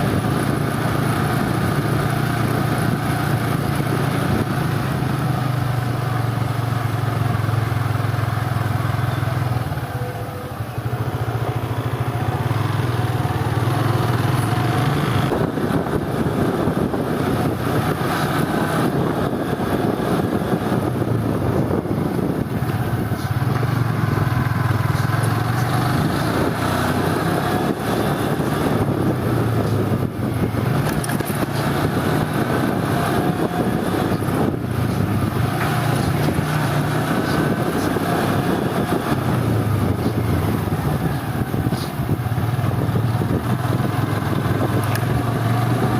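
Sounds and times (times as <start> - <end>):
motorcycle engine running: 0.0 - 45.9
road noise: 0.0 - 45.9
rushing wind: 0.0 - 45.9.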